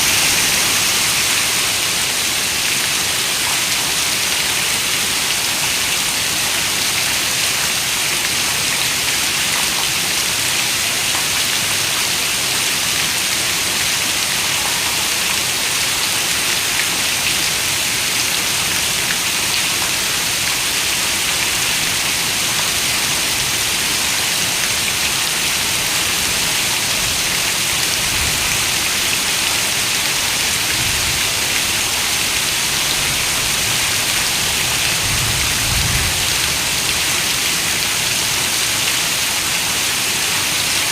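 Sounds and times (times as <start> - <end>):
heavy rain on a window: 0.0 - 40.9.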